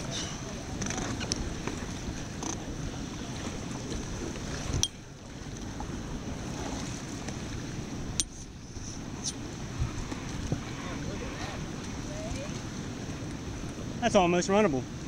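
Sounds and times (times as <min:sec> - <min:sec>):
wind buffeting microphone: 0:00.0 - 0:14.0
rushing river water: 0:00.0 - 0:15.0.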